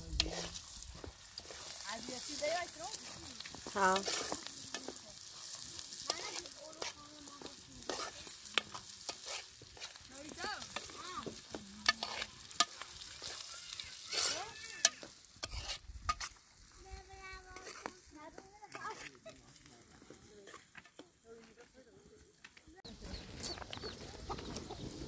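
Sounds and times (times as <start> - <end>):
oil sizzling: 0.0 - 20.4
metal spoon scraping a pan: 0.0 - 21.0.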